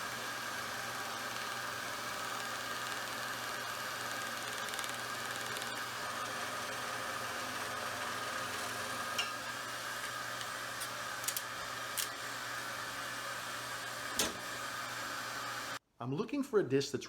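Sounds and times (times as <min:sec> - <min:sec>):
mechanical whir: 0:00.0 - 0:15.8.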